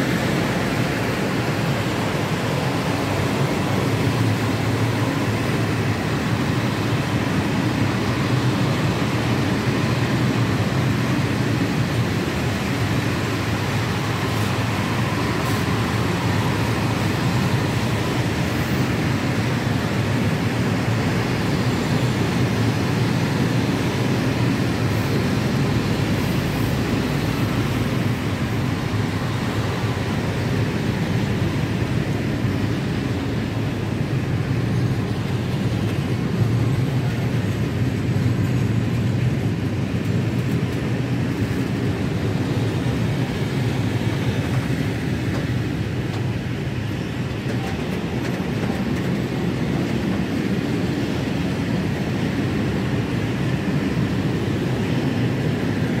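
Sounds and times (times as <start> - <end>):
freight train rolling on rails: 0.0 - 56.0.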